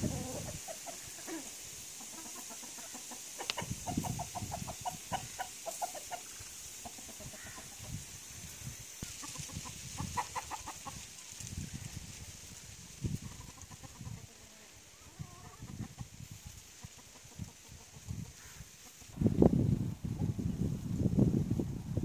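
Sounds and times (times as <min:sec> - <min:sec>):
chickens clucking: 0:00.0 - 0:19.2.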